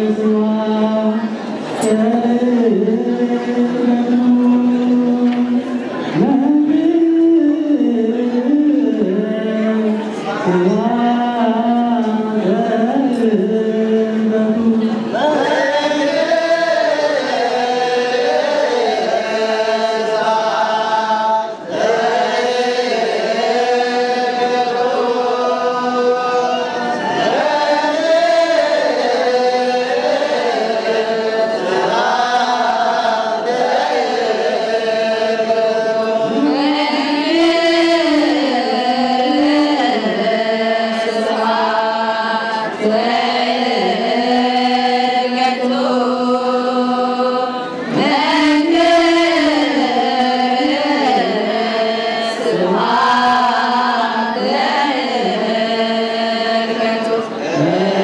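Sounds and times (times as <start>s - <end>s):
choir chanting a hymn: 0.0s - 58.0s.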